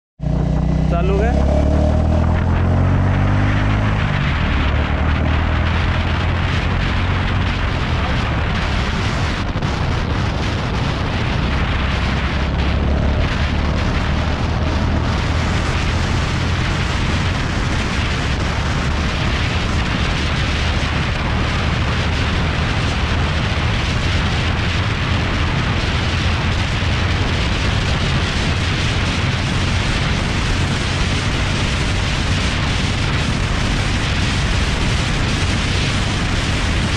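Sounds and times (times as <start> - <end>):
motorcycle engine running: 0.2 - 36.9
wind noise on microphone: 0.2 - 36.9.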